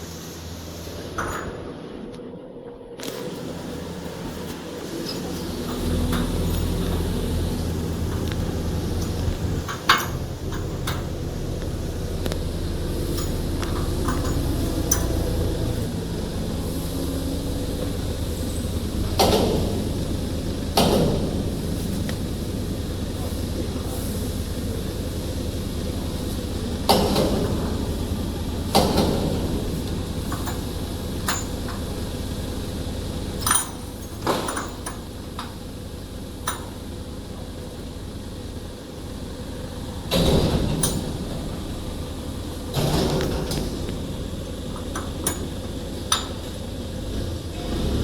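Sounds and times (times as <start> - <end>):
steady low hum: 0.0 - 47.7.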